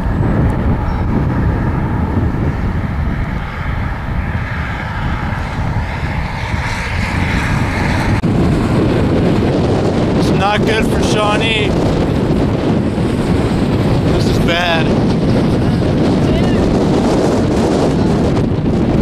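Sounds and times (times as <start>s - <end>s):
highway traffic: 0.0s - 19.0s
wind buffeting microphone: 0.0s - 19.0s.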